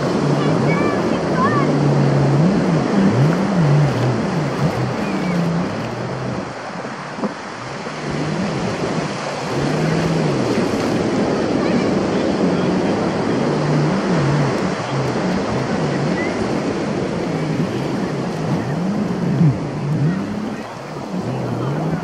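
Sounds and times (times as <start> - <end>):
ocean surf washing up beach: 0.0 - 22.0.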